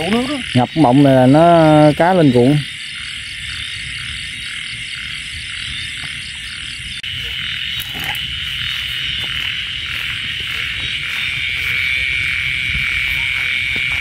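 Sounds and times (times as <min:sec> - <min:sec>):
frogs calling: 0:00.0 - 0:14.0
insects calling: 0:00.0 - 0:14.0.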